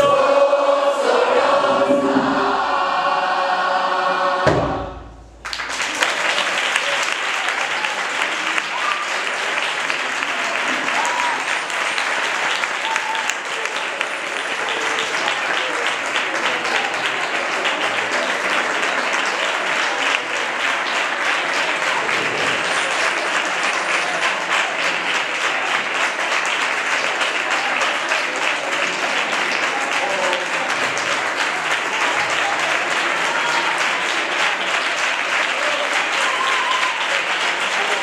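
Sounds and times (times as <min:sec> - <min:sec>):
audience applauding: 0:05.4 - 0:38.0
faint voices: 0:06.0 - 0:38.0.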